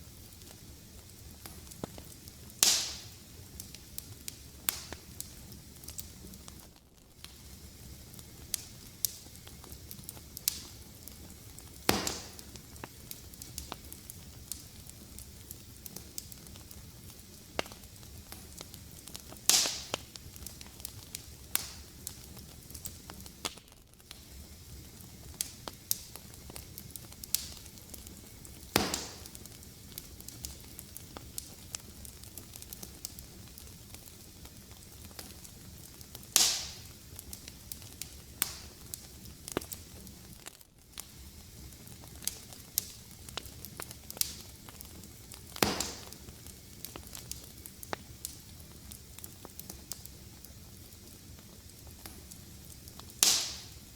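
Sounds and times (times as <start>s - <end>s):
fire crackling: 0.0s - 53.9s
loud fire pops: 0.1s - 53.9s.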